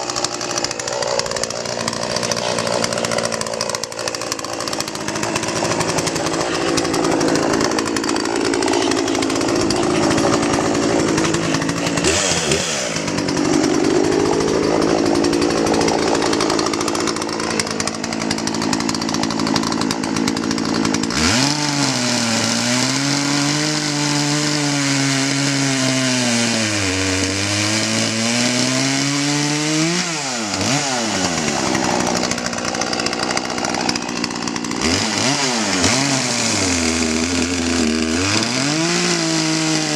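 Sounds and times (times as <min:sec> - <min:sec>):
chainsaw running hard: 0:00.0 - 0:39.9.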